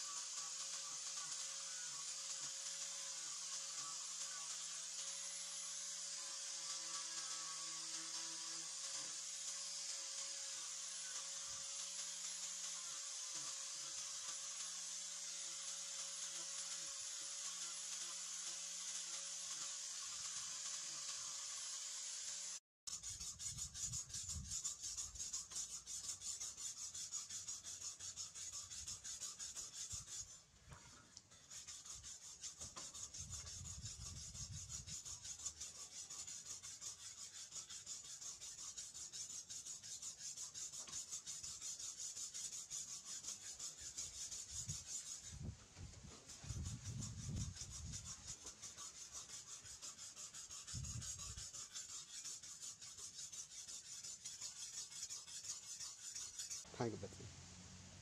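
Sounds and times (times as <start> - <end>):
steel blade scraping on whetstone: 0.0 - 56.7.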